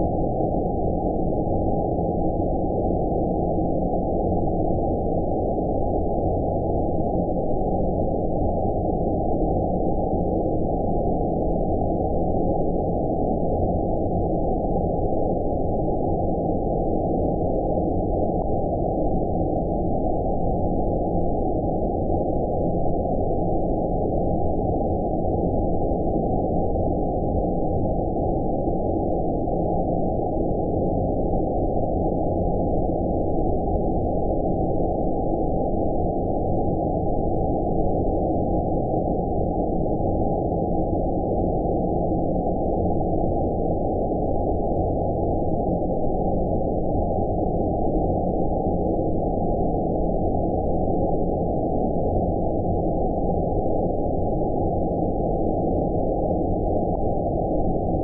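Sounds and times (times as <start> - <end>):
low filtered white noise: 0.0 - 58.0.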